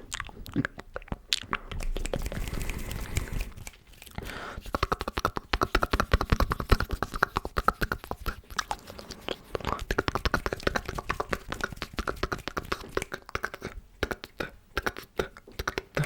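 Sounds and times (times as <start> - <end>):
mouth clicks and smacks: 0.0 - 16.0.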